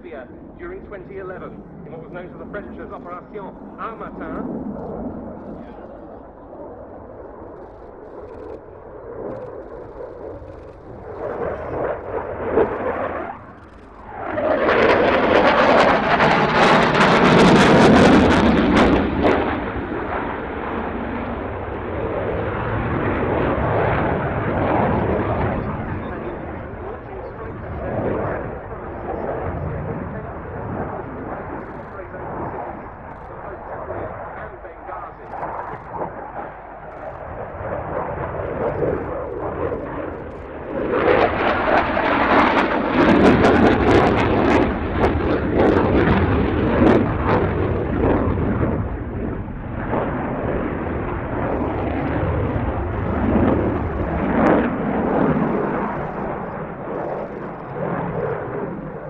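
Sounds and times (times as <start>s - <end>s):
fighter jet engine roar: 0.0s - 59.0s.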